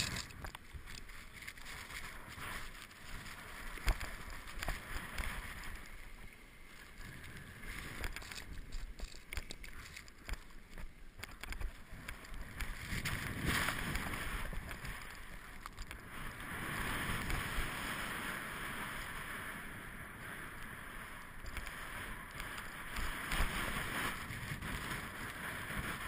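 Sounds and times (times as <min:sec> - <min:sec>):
skis swishing through snow: 0:00.0 - 0:11.0, 0:11.6 - 0:26.0
wind rumbling on microphone: 0:00.0 - 0:26.0.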